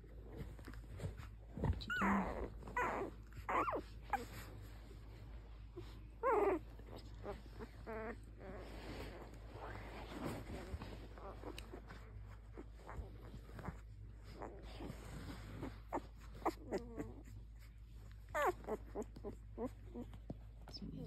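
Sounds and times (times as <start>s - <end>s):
puppies whimpering and squeaking: 0.2s - 20.8s.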